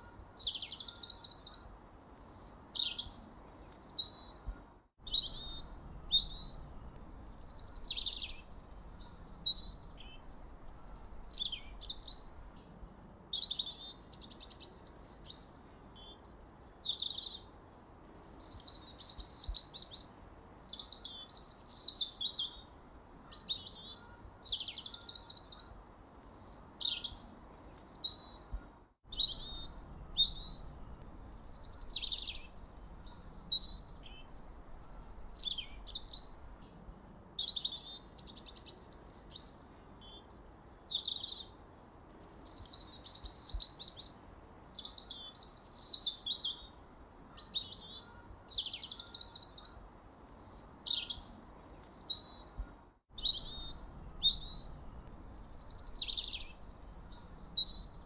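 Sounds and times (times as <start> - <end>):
faint steady hiss: 0.0 - 58.0
songbirds chirping: 0.0 - 58.0.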